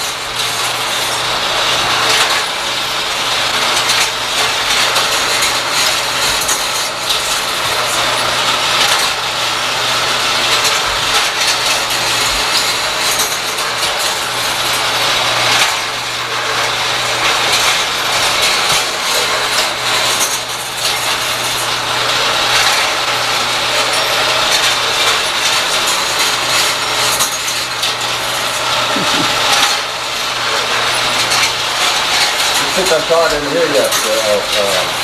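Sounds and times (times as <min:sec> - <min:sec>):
motor humming: 0:00.0 - 0:35.0
model machinery gears clattering: 0:03.5 - 0:35.0.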